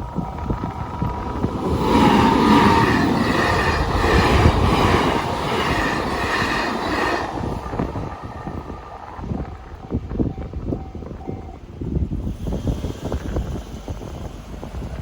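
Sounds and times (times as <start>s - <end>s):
train cars running over rails: 0.0s - 15.0s.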